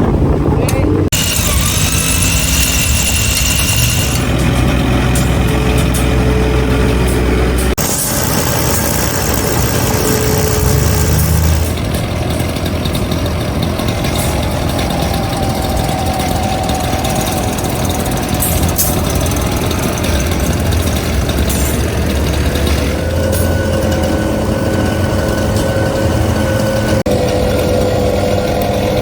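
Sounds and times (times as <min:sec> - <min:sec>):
engine idling: 0:01.1 - 0:29.0.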